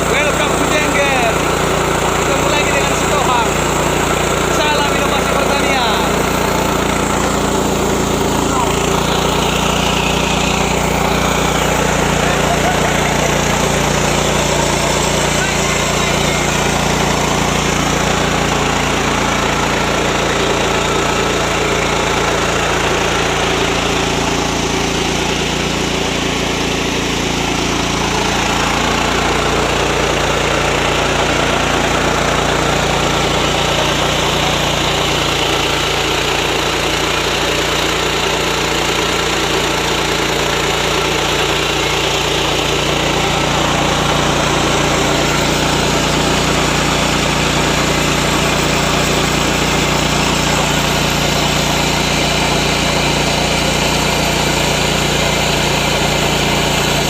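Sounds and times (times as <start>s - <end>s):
rice mill running: 0.0s - 57.0s.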